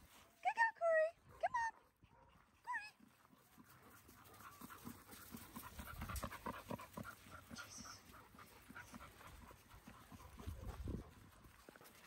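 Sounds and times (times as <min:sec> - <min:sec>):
dog panting: 0:01.7 - 0:12.0.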